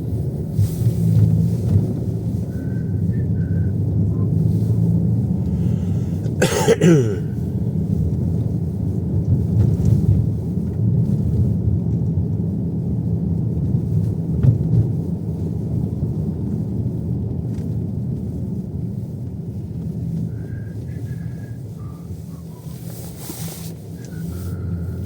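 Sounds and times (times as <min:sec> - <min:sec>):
car interior road and engine rumble: 0:00.0 - 0:25.0.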